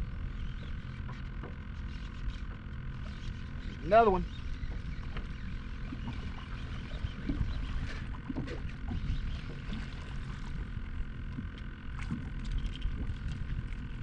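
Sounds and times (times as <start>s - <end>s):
wind and water rumble: 0.0s - 14.0s.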